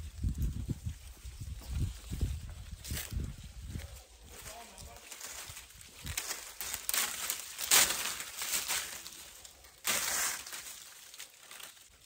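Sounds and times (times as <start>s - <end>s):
dry vines crackling and rustling: 0.0s - 12.0s.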